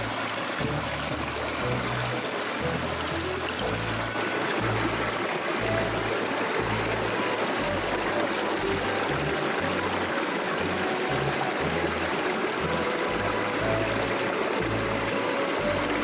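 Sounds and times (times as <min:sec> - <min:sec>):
music bass line: 0:00.0 - 0:16.0
river water rushing: 0:00.0 - 0:16.0.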